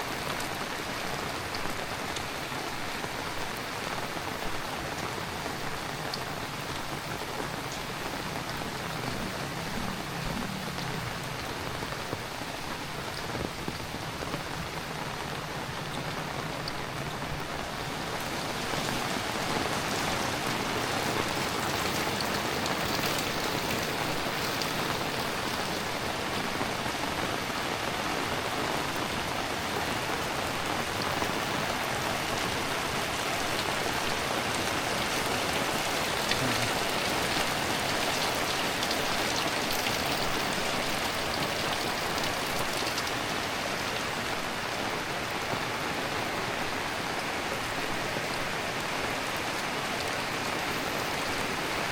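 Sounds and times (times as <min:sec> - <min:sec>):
heavy rain pattering: 0:00.0 - 0:51.9.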